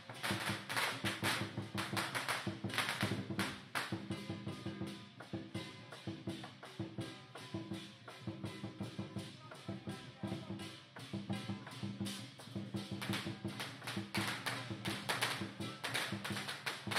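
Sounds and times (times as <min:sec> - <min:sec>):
drum beating: 0:00.0 - 0:16.9.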